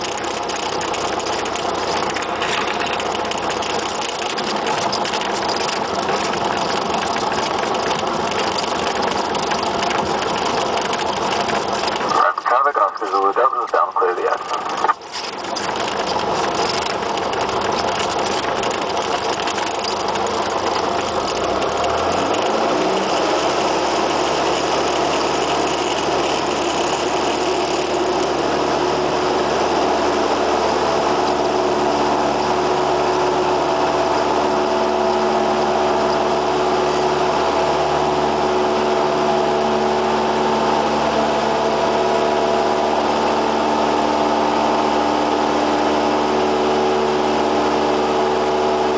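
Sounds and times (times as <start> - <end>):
aircraft piston engine and propeller: 0.0 - 48.9.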